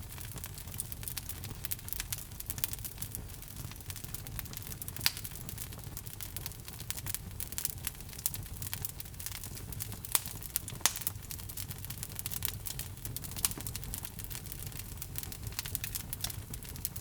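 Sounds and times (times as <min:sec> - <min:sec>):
log fire crackling: 0:00.0 - 0:17.0
low rumble of fire: 0:00.0 - 0:17.0.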